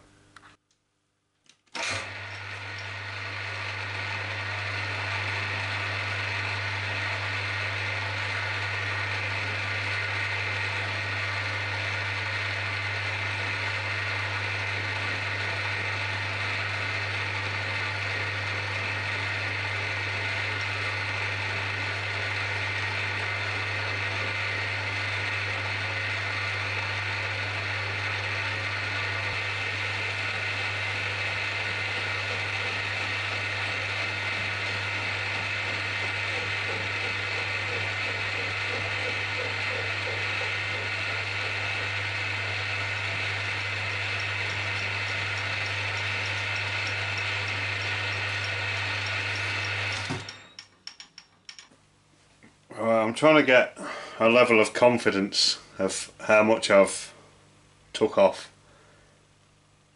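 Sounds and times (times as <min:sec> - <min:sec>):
gear whine: 0:01.8 - 0:50.8
milling machine motor hum: 0:01.8 - 0:51.7.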